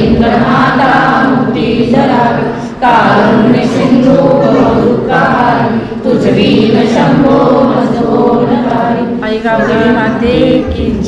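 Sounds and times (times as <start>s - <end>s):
group singing a hymn: 0.0s - 11.0s.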